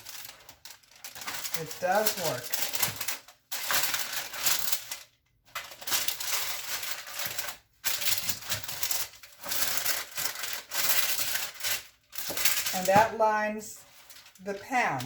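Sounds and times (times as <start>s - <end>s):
parchment paper rustling and crinkling: 0.0s - 15.0s.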